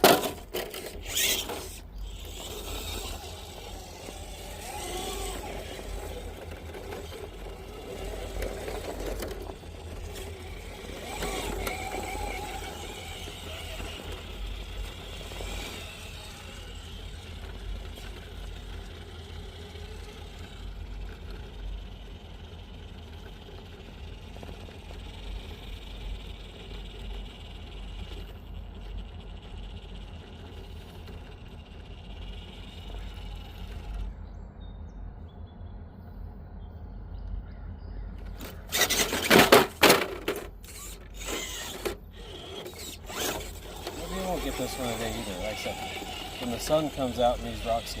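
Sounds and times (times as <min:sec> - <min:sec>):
electric motor whining: 0:00.0 - 0:34.2, 0:38.3 - 0:48.0.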